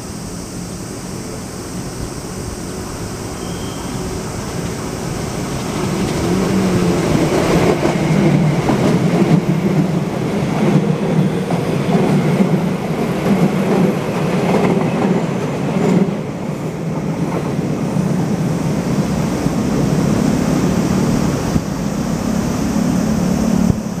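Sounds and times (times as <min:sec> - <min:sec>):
electric train passing: 0:00.0 - 0:24.0.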